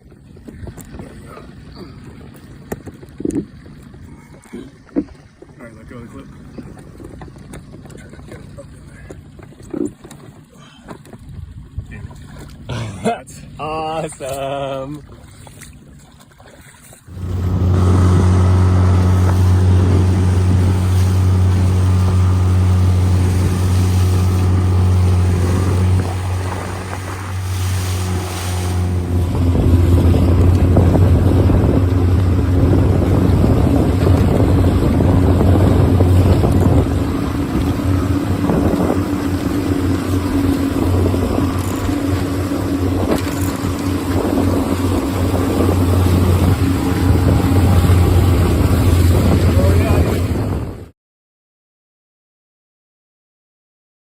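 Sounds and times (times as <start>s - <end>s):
outboard motor running: 0.0s - 50.9s
water noise: 0.0s - 50.9s.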